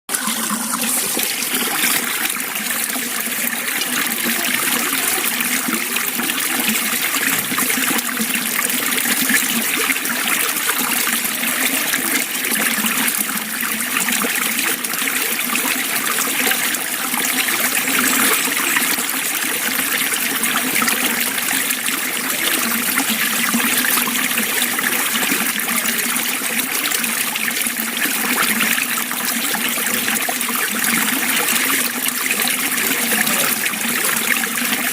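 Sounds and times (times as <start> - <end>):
water flowing and trickling: 0.1 - 34.9.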